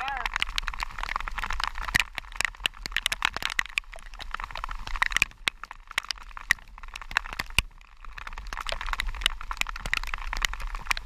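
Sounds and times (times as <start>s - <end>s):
raindrops striking close: 0.0s - 11.0s
steady hiss of falling rain: 0.0s - 11.0s.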